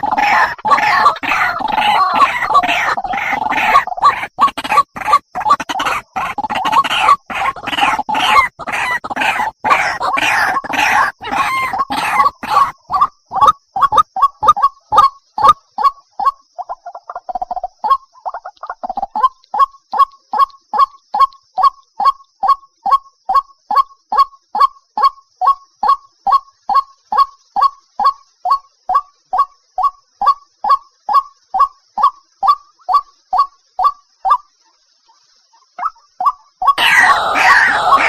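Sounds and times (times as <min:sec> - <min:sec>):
waterhen croaking calls: 0:00.0 - 0:38.0.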